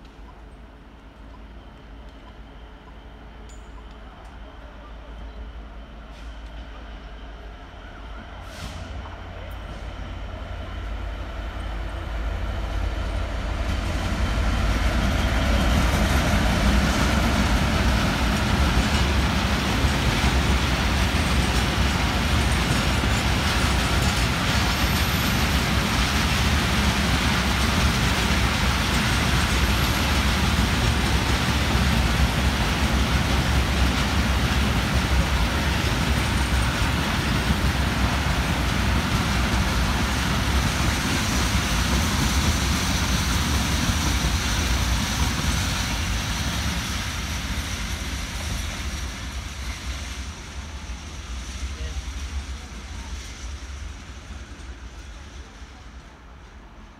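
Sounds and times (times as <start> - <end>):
diesel locomotive passing: 0.0 - 56.9
train wheels rumbling on rail: 0.0 - 56.9.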